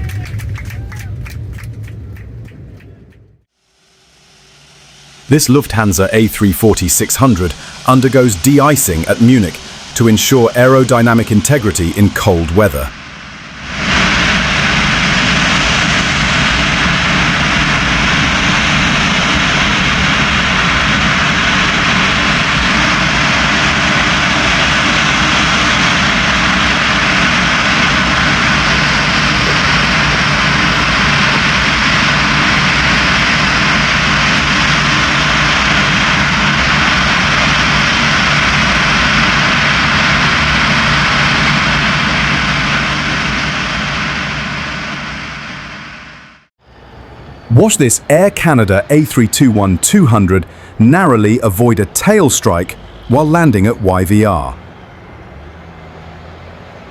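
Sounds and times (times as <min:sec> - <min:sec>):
low hum: 0:00.0 - 0:56.9
jet airliner hiss: 0:03.6 - 0:54.9.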